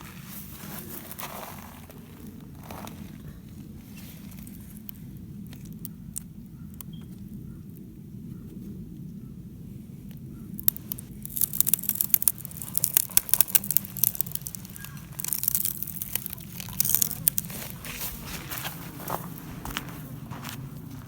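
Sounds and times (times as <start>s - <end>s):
dry wood crackling and snapping: 0.0s - 7.9s, 10.0s - 21.0s
steady low hum: 0.0s - 21.0s.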